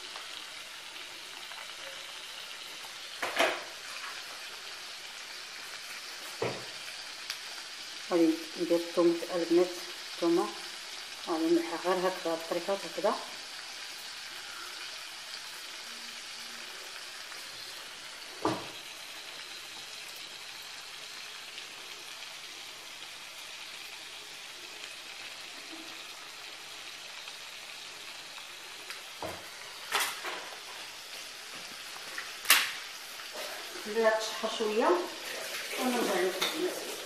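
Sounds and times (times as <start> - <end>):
meat sizzling in oil: 0.0 - 37.0.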